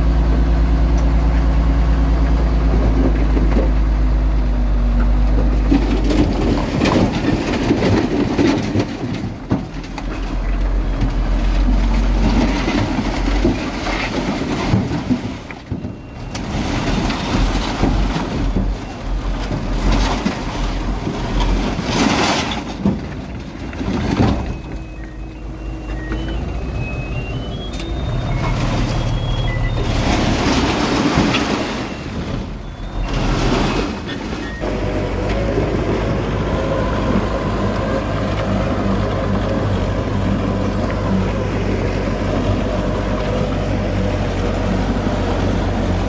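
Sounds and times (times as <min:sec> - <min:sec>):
diesel machinery engines running: 0:00.0 - 0:46.0.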